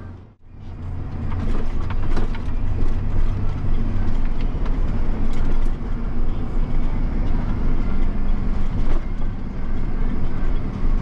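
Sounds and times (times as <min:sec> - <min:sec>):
diesel tractor engine humming: 0:00.0 - 0:11.0.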